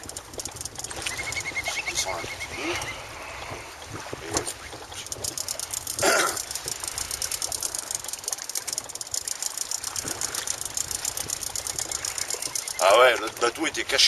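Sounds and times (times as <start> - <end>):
fishing reel ticking: 0.0 - 3.5, 4.5 - 14.0.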